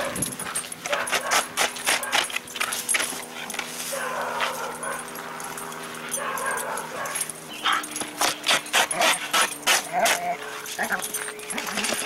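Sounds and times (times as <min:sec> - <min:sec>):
dog noises: 0:00.0 - 0:12.0.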